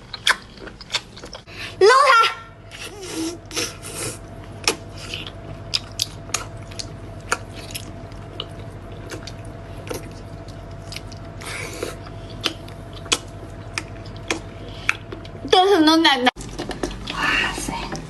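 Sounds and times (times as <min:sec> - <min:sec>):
person chewing and crunching: 0:00.0 - 0:01.5, 0:02.7 - 0:15.5, 0:16.4 - 0:17.3
low hum: 0:00.0 - 0:18.0.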